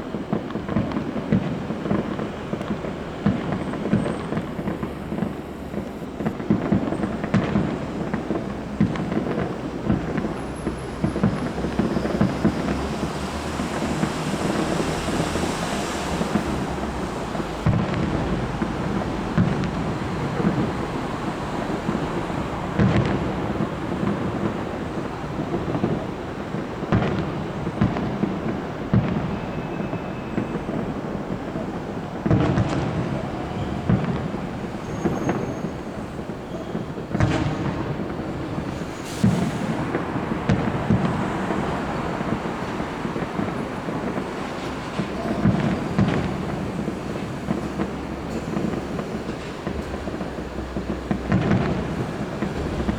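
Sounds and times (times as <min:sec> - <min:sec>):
fireworks booming and crackling: 0:00.0 - 0:52.9.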